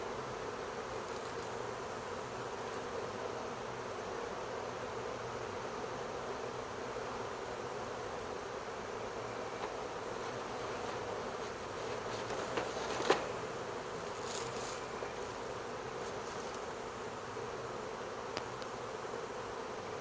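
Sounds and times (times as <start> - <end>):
bee swarm buzzing: 0.0 - 20.0.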